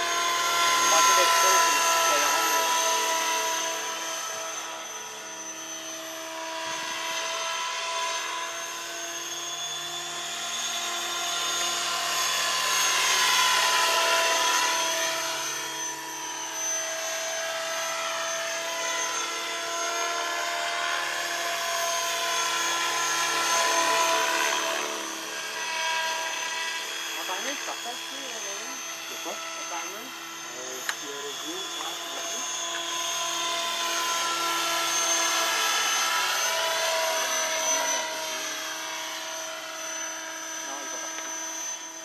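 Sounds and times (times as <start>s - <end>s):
model helicopter whining: 0.0s - 42.0s.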